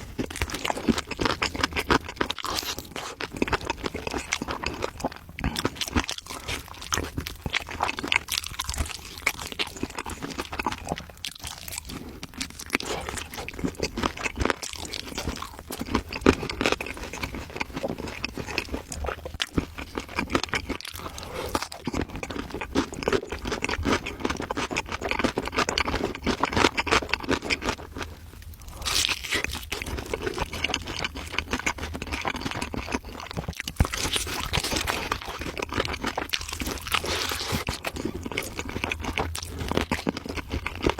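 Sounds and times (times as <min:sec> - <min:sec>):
crunchy food being chewed: 0:00.0 - 0:40.9.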